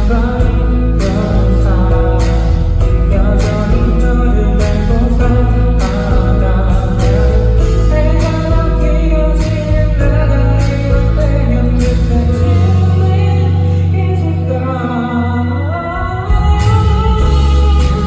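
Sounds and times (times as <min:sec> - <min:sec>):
live band playing: 0:00.0 - 0:18.0
person singing: 0:00.0 - 0:18.0.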